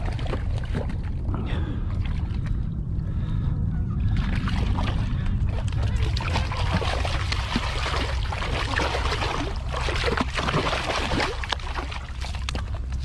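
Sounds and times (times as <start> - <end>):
water splashing against rocks: 0.0 - 2.5, 4.2 - 13.0
fish thrashing in water: 0.0 - 2.6, 4.0 - 13.0
low rumble: 0.0 - 13.0.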